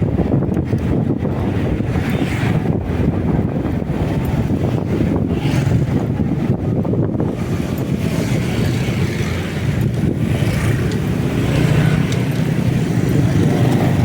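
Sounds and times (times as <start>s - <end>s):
motorcycle running: 0.0s - 14.0s
wind rushing over microphone: 0.0s - 14.0s.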